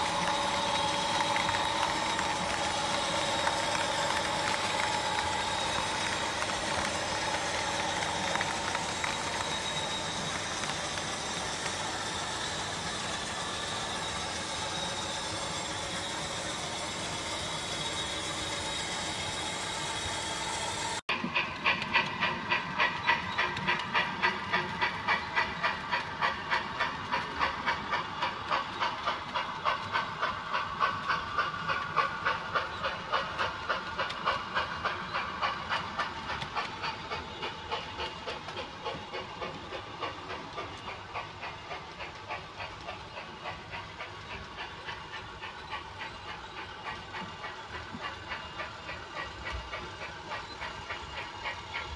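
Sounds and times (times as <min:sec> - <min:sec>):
model locomotive engine drone: 0:00.0 - 0:51.9
model steam locomotive chuffing: 0:00.0 - 0:51.9.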